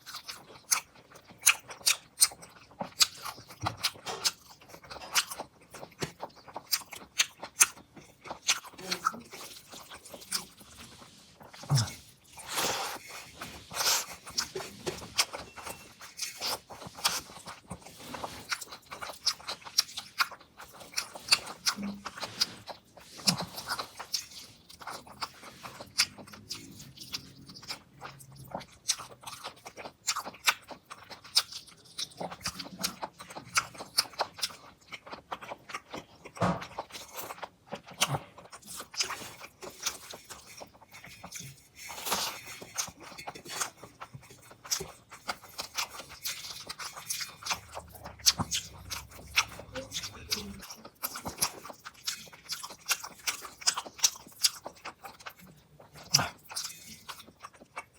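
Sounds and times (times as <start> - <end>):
person chewing and mouth smacking: 0.0 - 57.9.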